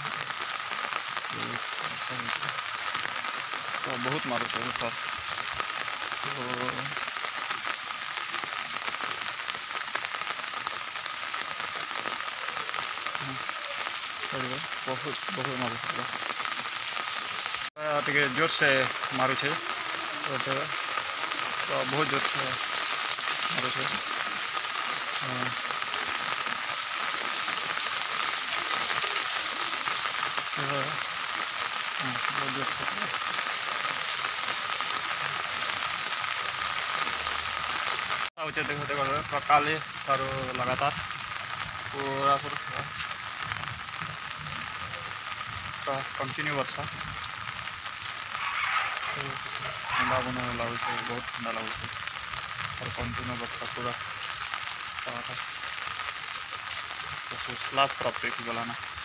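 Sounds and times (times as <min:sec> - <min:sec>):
heavy rain on an umbrella: 0:00.0 - 0:59.0.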